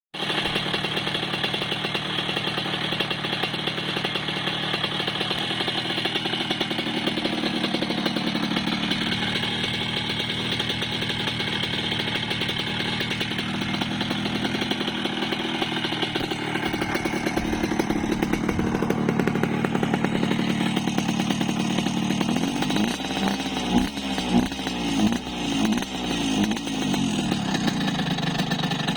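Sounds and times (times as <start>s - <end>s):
motorcycle engine revving: 0.2s - 28.9s
motorcycle engine running: 0.2s - 28.9s.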